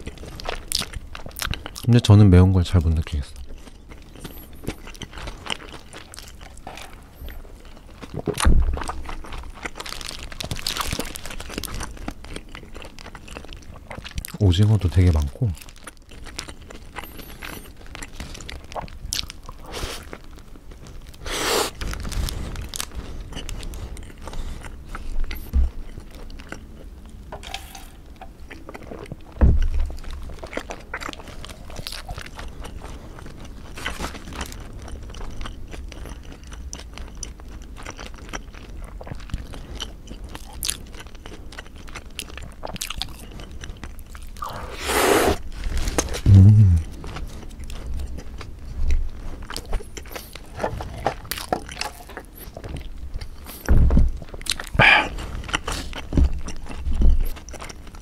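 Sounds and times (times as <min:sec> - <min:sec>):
biting and chewing food: 0:00.0 - 0:58.0.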